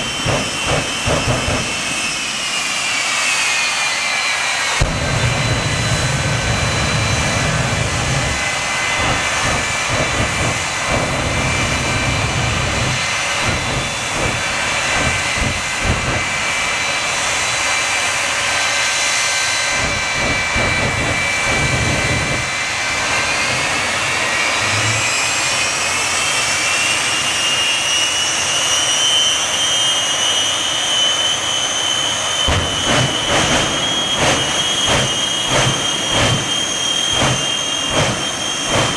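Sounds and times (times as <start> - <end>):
jet engines roaring with turbine whine: 0.0 - 38.9.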